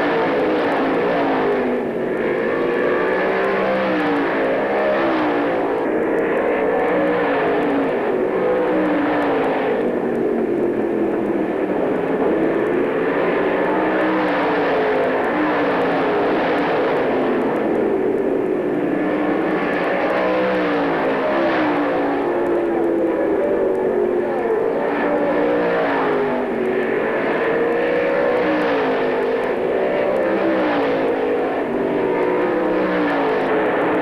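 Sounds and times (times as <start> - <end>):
race car engines racing: 0.0 - 34.0.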